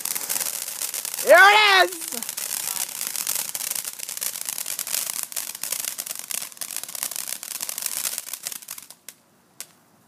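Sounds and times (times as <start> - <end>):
firework fountain hissing and crackling: 0.0 - 9.9.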